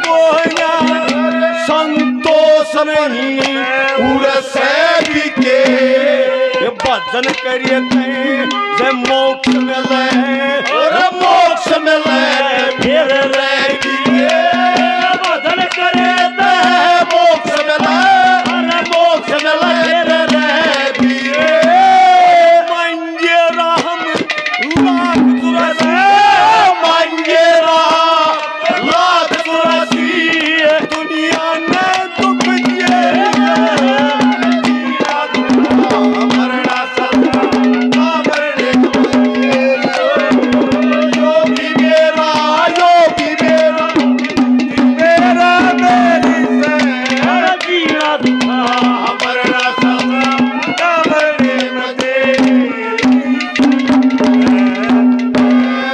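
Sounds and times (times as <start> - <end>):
hand drum strokes: 0.0 - 55.9
wavering instrumental melody: 0.0 - 55.9.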